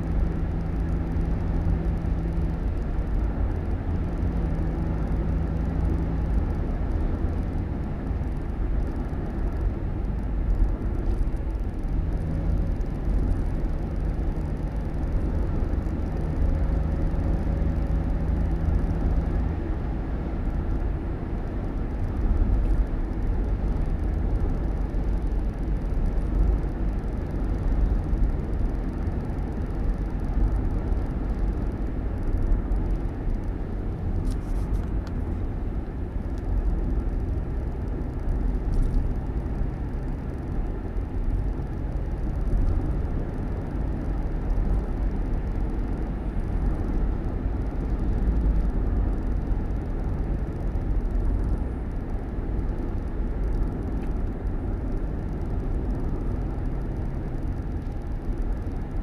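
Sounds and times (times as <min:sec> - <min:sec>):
vehicle rumbling on the move: 0:00.0 - 0:59.0.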